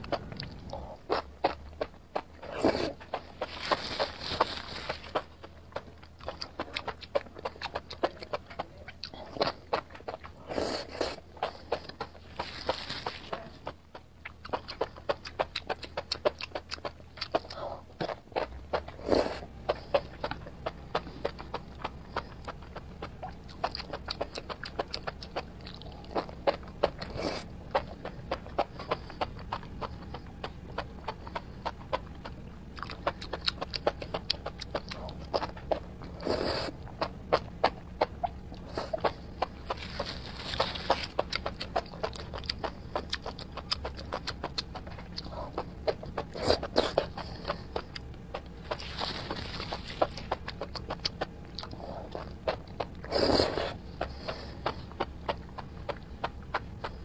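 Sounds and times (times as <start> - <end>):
person chewing crisp food: 0.0 - 57.0.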